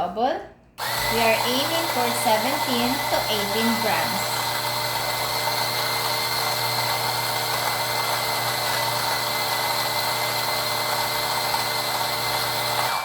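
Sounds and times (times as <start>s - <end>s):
coffee grinder motor humming: 0.8s - 13.0s.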